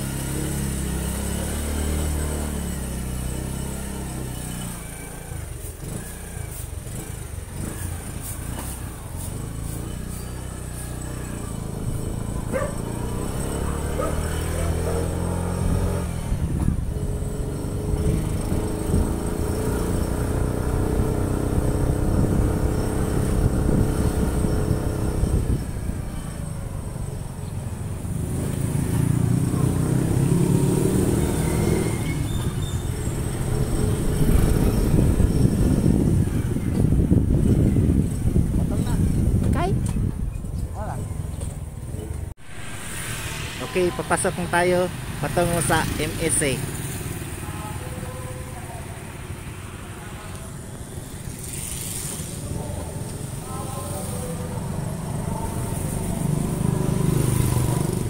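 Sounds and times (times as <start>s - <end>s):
motorcycle engine running: 0.0s - 58.0s
road and wind rumble: 0.0s - 58.0s.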